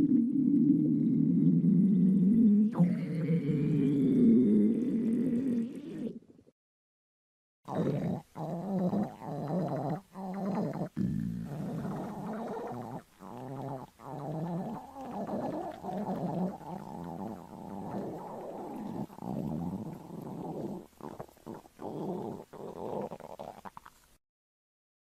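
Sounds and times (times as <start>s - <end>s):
stomach growling: 0.0s - 6.4s, 7.7s - 24.2s.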